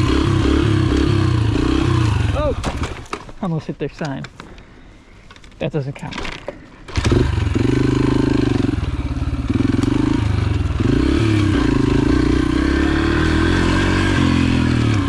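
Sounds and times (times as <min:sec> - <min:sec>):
dirt bike engine shifting gears: 0:00.0 - 0:03.2, 0:05.3 - 0:15.0.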